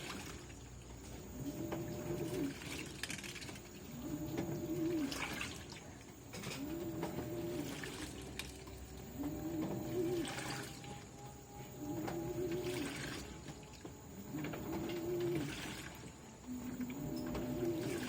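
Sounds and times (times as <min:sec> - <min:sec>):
washing machine drum motor humming: 0:00.0 - 0:18.0
water sloshing: 0:00.0 - 0:18.0.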